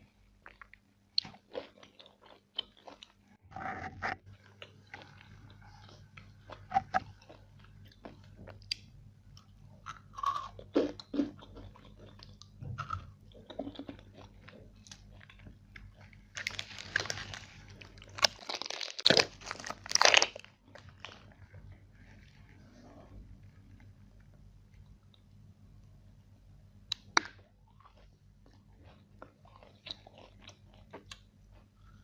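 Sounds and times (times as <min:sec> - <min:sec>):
crunchy food being chewed: 0:00.4 - 0:25.3, 0:26.9 - 0:32.0.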